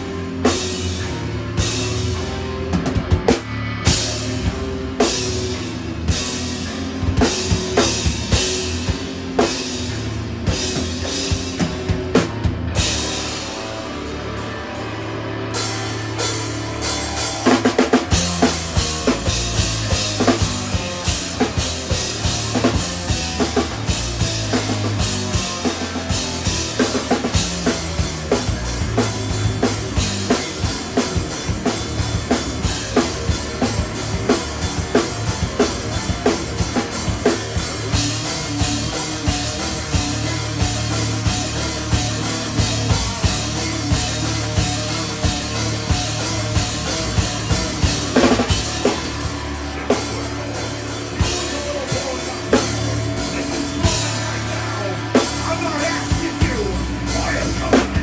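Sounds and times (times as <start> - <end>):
drum kit beat: 0.0 - 58.0
live instrumental rock band: 0.0 - 58.0.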